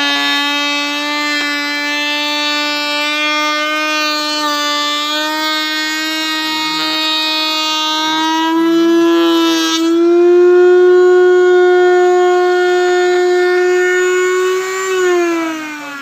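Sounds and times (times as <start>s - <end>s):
router cutting wood: 0.0s - 16.0s
wood router motor whine: 0.0s - 16.0s.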